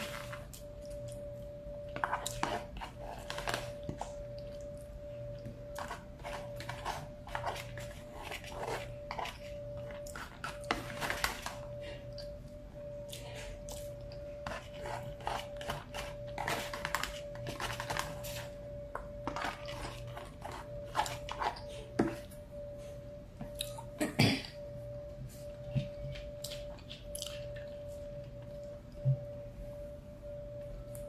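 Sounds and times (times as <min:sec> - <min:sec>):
faint high hum: 0:00.0 - 0:31.0.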